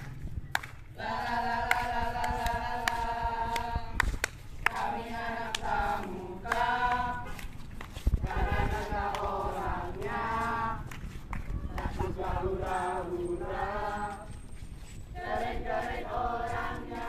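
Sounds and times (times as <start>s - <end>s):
group of voices singing: 0.9s - 14.4s, 15.1s - 17.0s.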